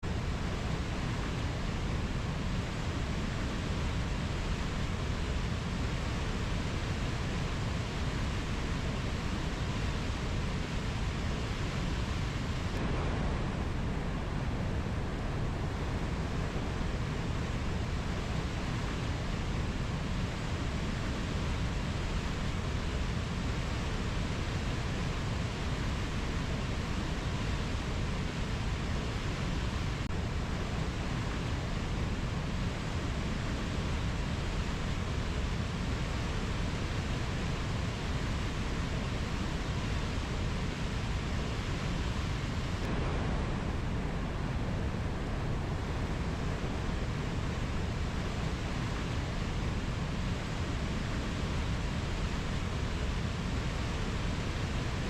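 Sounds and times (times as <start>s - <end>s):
low rushing rainforest ambience: 0.0s - 55.0s.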